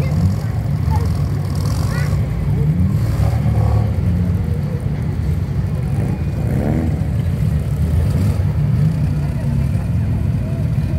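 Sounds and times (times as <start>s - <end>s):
car engines rumbling: 0.0s - 10.9s.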